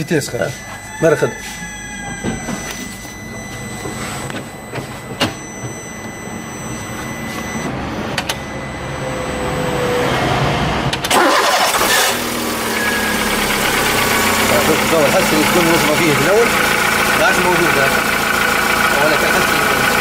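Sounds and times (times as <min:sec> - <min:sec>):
car engine revving and idling: 0:02.7 - 0:20.0.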